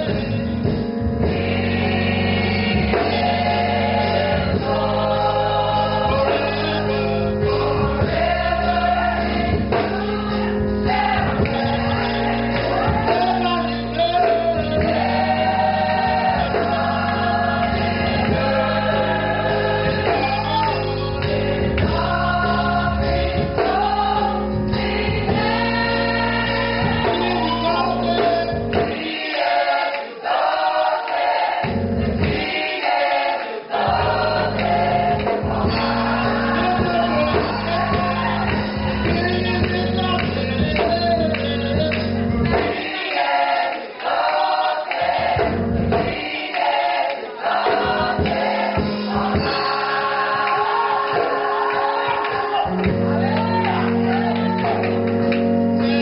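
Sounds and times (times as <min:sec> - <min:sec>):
gospel choir singing: 0:00.0 - 0:56.0
instrumental accompaniment: 0:00.0 - 0:56.0.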